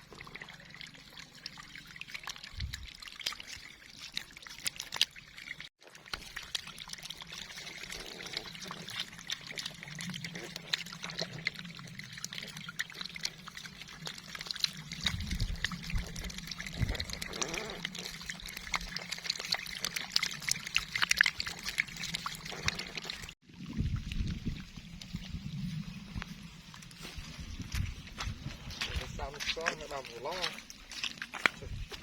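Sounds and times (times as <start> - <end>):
shallow water splashing and trickling: 0.0 - 32.0.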